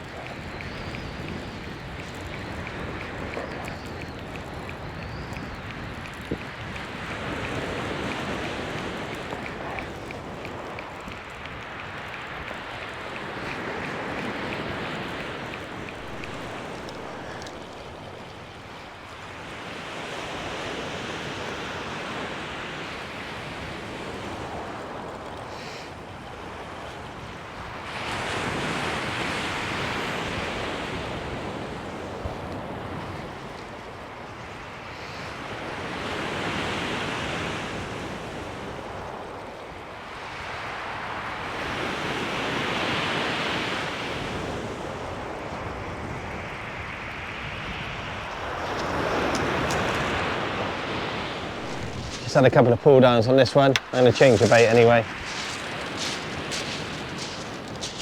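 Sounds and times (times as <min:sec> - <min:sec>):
surf on a shingle beach: 0:00.0 - 0:58.0.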